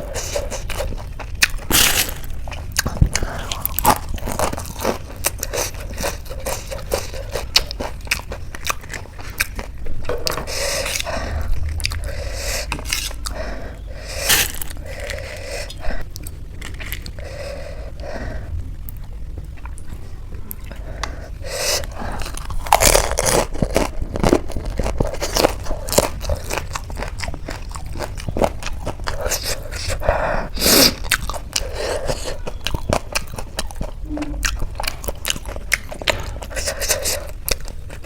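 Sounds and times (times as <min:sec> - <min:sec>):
crunchy snack crunching: 0:00.0 - 0:17.9, 0:21.4 - 0:38.0
wet chewing: 0:00.0 - 0:38.0.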